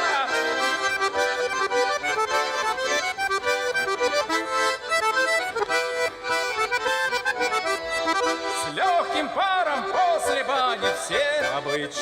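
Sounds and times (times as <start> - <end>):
accordion playing folk music: 0.0 - 12.0.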